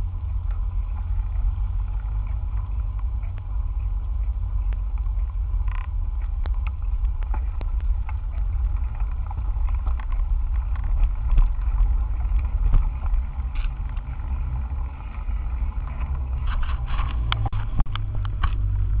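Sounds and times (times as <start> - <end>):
bicycle rattling: 0.0 - 19.0
bicycle rumbling over rough pavement: 0.0 - 19.0.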